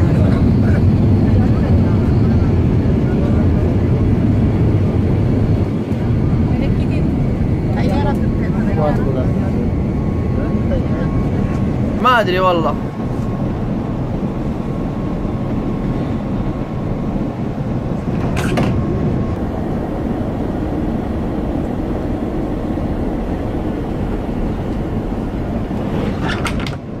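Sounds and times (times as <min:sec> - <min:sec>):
airliner cabin engine rumble: 0:00.0 - 0:27.0.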